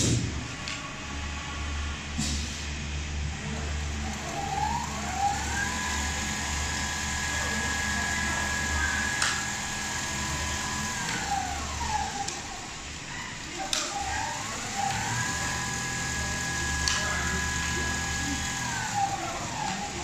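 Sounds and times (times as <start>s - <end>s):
sewing machine motor whine: 3.3s - 20.0s.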